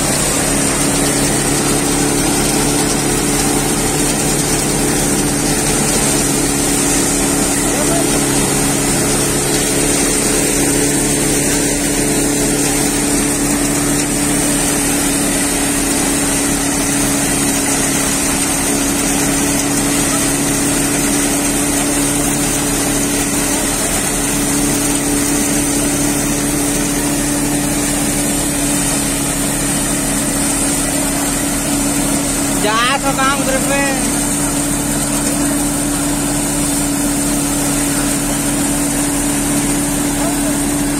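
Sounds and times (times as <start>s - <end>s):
thresher machine droning: 0.0s - 40.9s.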